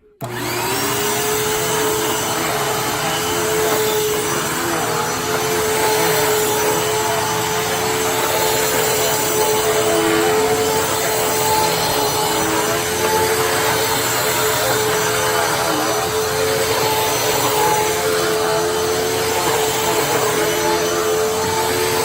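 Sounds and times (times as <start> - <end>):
vacuum cleaner motor whining: 0.0 - 22.0.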